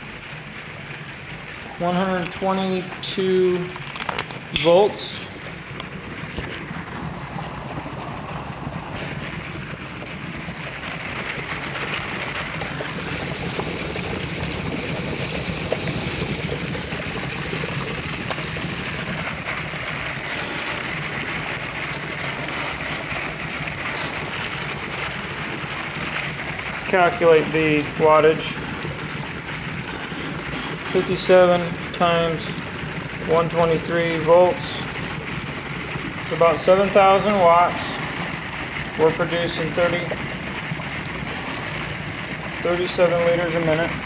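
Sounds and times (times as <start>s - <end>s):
gas bubbling through cells: 0.0s - 44.0s.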